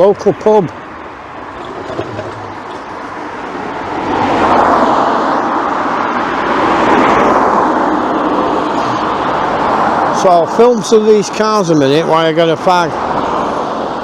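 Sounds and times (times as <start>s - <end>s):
tyres and engines noise: 0.0s - 14.0s
vehicles passing close by: 0.0s - 14.0s.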